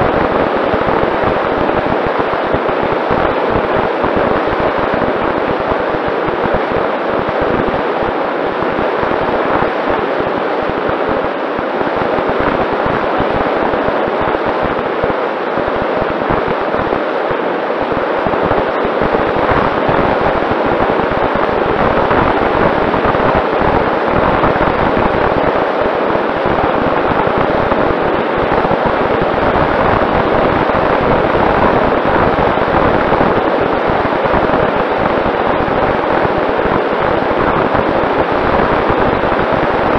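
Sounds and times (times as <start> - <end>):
wind rushing and buffeting: 0.0 - 39.9.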